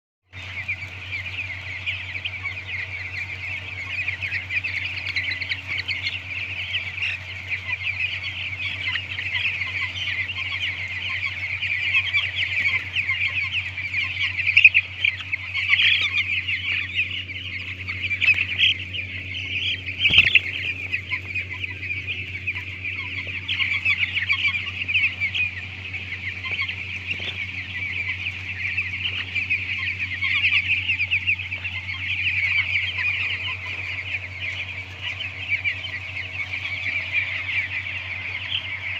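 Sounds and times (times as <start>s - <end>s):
chicks peeping: 0.3s - 38.9s
steady low hum: 0.3s - 38.9s.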